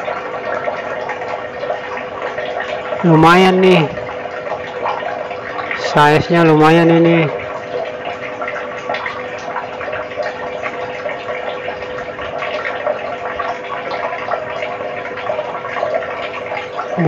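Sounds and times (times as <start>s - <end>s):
steady multi-tone hum: 0.0s - 17.0s
water splashing and trickling: 0.0s - 17.0s.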